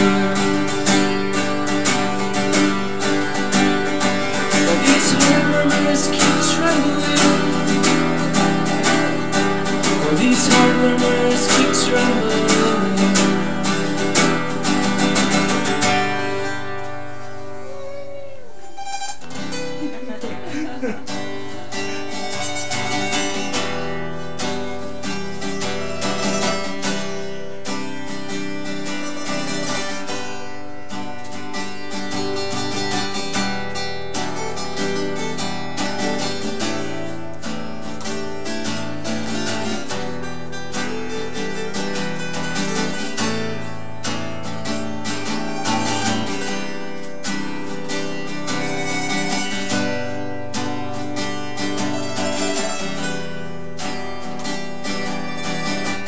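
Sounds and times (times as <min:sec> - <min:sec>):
strummed acoustic guitar: 0:00.0 - 0:56.0.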